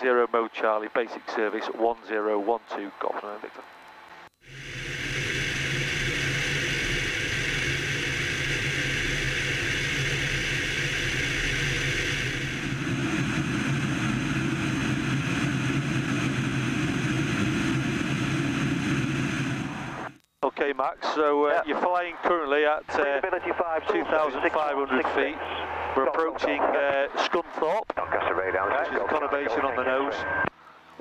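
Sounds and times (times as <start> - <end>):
propeller aircraft engine droning: 0.0 - 20.2, 21.1 - 31.0.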